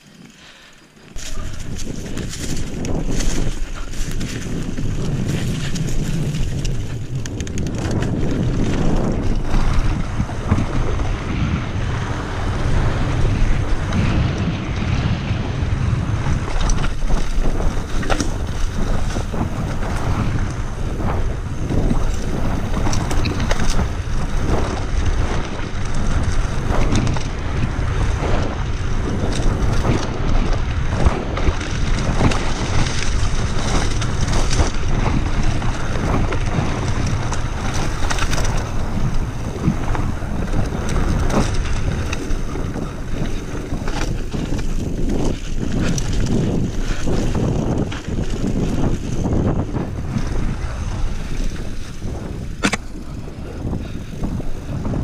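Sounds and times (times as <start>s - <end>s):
mountain bike rattling over ground: 0.0s - 55.0s
wind on microphone: 1.0s - 55.0s.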